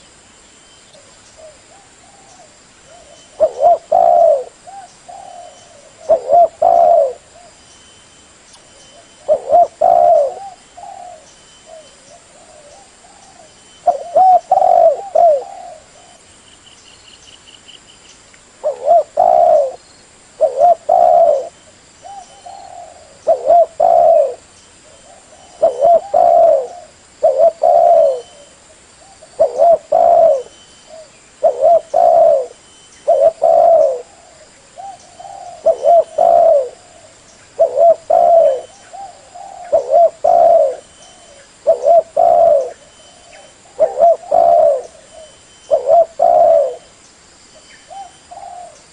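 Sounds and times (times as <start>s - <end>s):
dove cooing: 1.0s - 7.6s, 8.9s - 16.3s, 18.6s - 19.8s, 20.4s - 47.0s, 47.8s - 48.9s.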